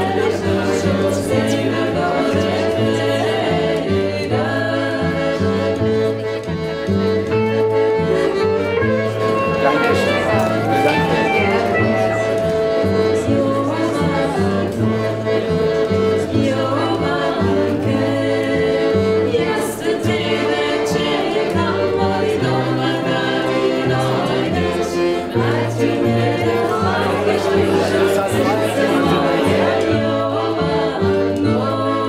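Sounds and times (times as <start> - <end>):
voices singing together: 0.0 - 7.1, 7.9 - 32.0
fiddle: 0.0 - 32.0.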